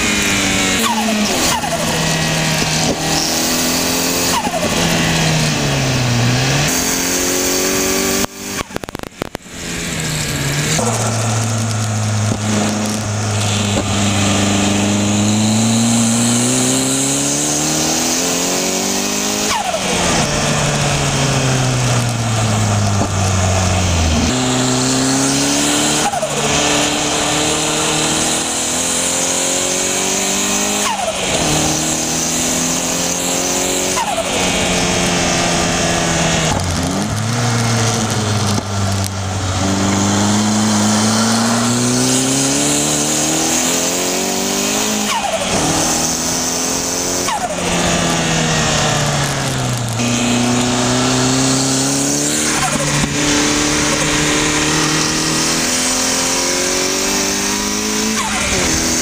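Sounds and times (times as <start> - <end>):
car engine revving through gears: 0.0 - 59.0
wind and road noise: 0.0 - 59.0.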